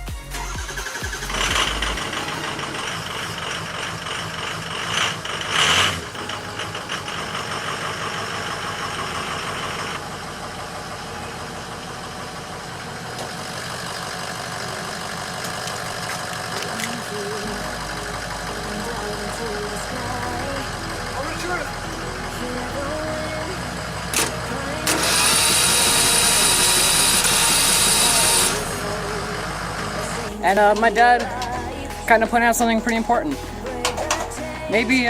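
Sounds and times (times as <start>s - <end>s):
electric starter cranking engine: 0.4s - 31.5s.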